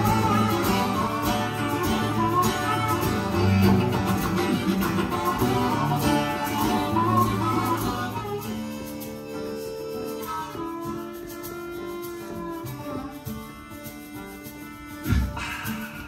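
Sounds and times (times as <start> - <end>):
acoustic band playing: 0.0 - 16.0
strummed acoustic guitars: 0.0 - 16.0.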